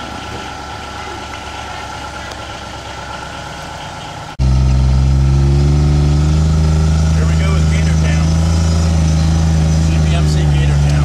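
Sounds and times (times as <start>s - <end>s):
utility vehicle engine idling: 0.0s - 11.0s
vehicle engine humming: 0.0s - 11.0s.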